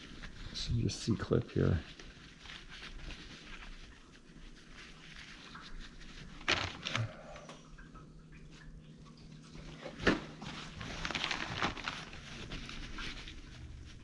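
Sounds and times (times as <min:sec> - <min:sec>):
rustling handling noise: 0:00.0 - 0:07.5, 0:08.5 - 0:14.0.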